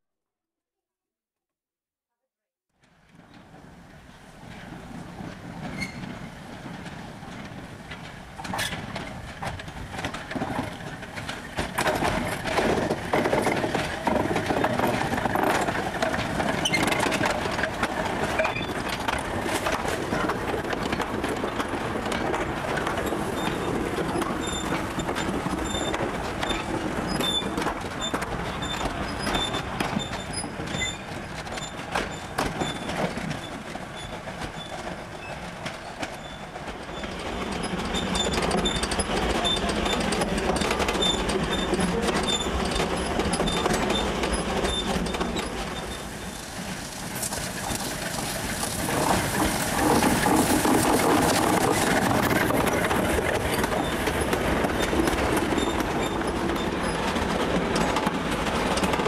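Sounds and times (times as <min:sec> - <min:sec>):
coach wheels rattling over rail joints: 0:03.0 - 0:59.0
steam locomotive exhaust and clanking: 0:03.0 - 0:59.0.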